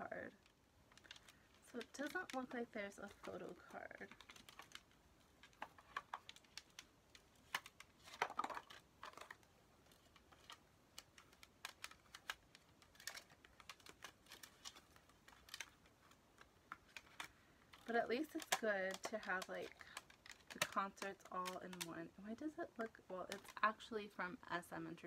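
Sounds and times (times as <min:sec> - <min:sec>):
paper rustle: 0:00.3 - 0:23.9.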